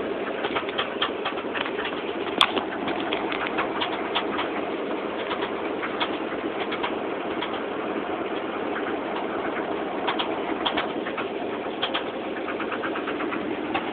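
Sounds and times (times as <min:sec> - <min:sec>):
car engine running: 0:00.0 - 0:13.9
engine rattling knock: 0:00.0 - 0:13.9.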